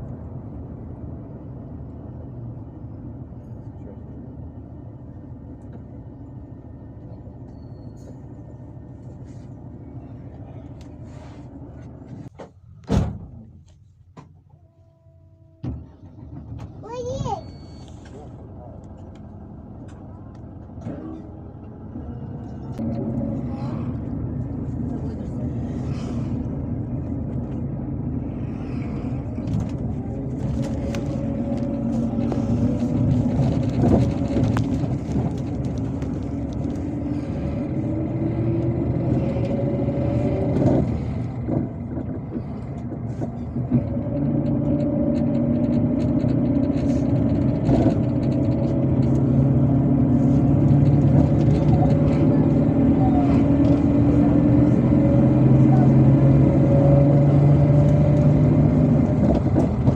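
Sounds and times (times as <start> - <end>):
bus diesel engine accelerating: 0.0 - 59.9.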